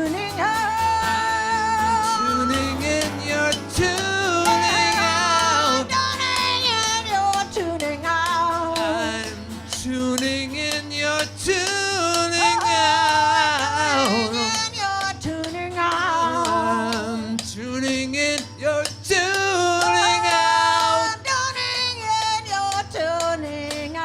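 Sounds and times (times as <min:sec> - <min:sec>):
woman singing: 0:00.0 - 0:09.6, 0:11.6 - 0:17.4, 0:18.7 - 0:24.0
strummed guitar: 0:00.0 - 0:24.0.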